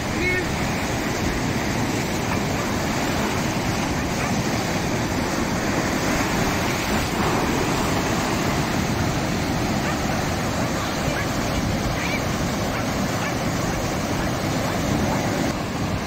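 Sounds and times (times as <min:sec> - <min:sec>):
surf breaking over rocks: 0:00.0 - 0:16.0.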